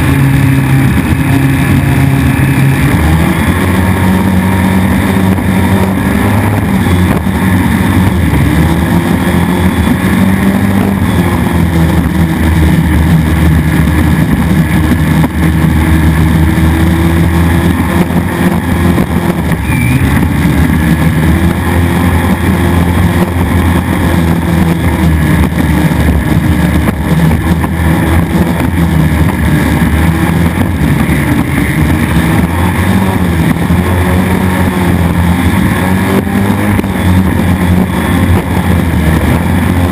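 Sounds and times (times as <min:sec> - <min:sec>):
powerboat engine running hard: 0:00.0 - 0:39.9.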